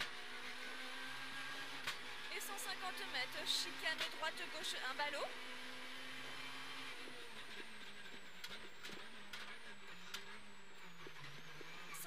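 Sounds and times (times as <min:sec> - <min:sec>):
car engine: 0:00.0 - 0:12.0.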